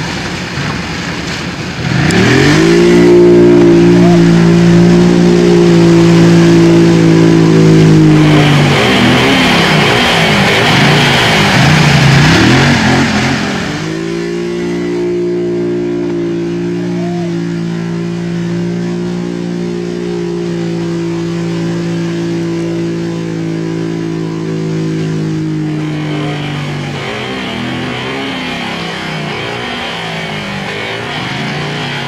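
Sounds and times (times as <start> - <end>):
quad engine revving: 1.8 - 32.0.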